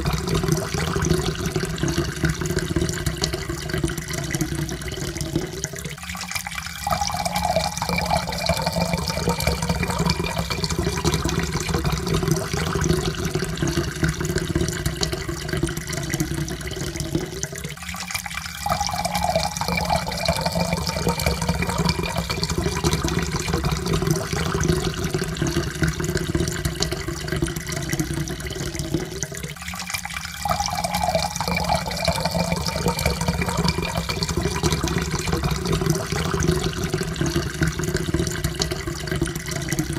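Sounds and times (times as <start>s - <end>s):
water pouring into cup: 0.0s - 39.9s.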